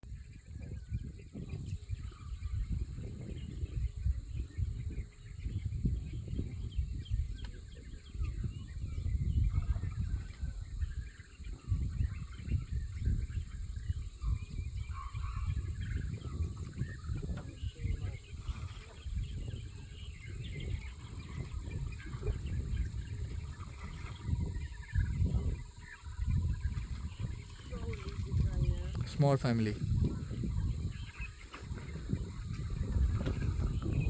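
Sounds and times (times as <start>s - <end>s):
faint bird calls: 0.3s - 34.0s.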